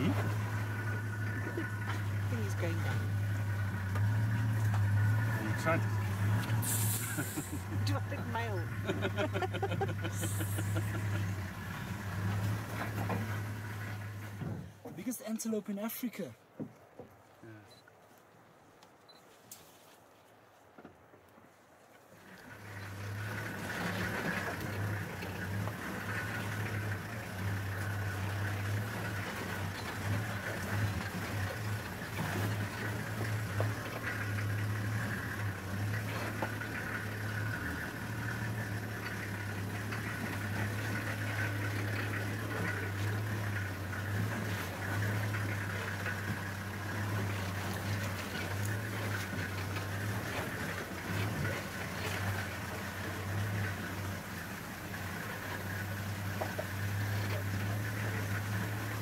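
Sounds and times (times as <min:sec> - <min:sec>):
vehicle engine running: 0:00.0 - 0:14.9, 0:22.2 - 0:59.0.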